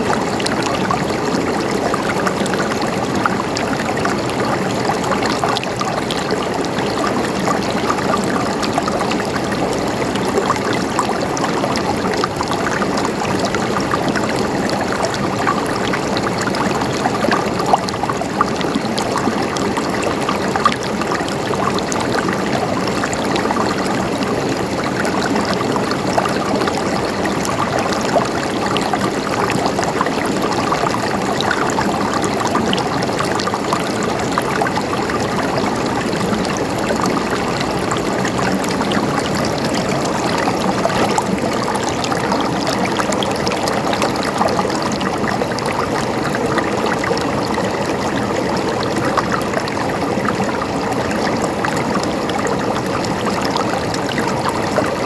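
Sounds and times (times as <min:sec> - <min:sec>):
stream water gurgling: 0:00.0 - 0:55.0
water splashes: 0:00.0 - 0:55.0.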